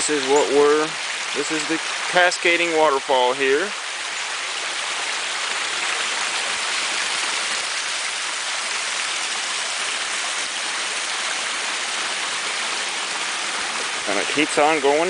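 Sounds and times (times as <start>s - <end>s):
water rushing down waterfall: 0.0s - 15.0s.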